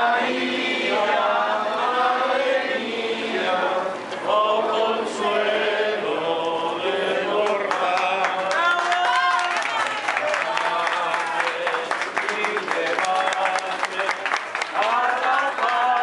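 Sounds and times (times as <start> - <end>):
crowd singing a hymn: 0.0 - 8.9, 10.3 - 16.0.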